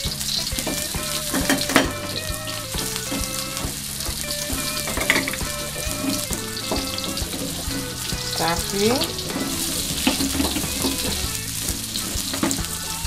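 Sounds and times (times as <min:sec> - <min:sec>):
shallots sizzling in hot oil: 0:00.0 - 0:13.0
soft background music: 0:00.0 - 0:13.0
spatula scraping and knocking wok: 0:00.1 - 0:13.0.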